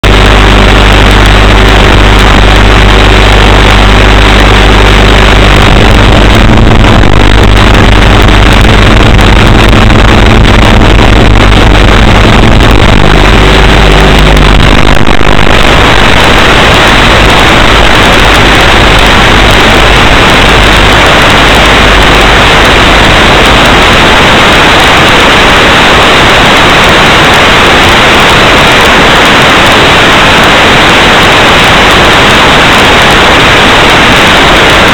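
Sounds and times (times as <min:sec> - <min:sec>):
distorted buzz with low hum: 0:00.0 - 0:34.9
harsh static hiss: 0:00.0 - 0:34.9.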